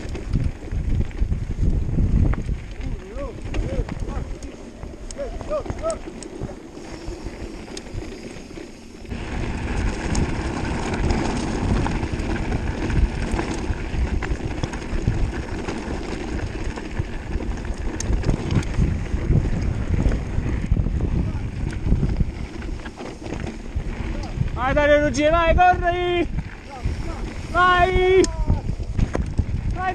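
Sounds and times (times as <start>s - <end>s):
stones and bike rattling: 0.0s - 29.9s
tyres rumbling on gravel: 0.0s - 29.9s
wind buffeting microphone: 0.0s - 29.9s.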